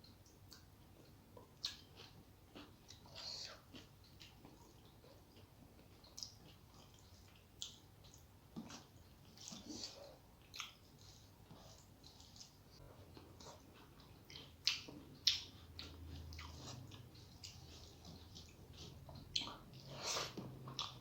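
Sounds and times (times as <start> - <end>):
chewing and wet mouth smacks: 0.2 - 21.0.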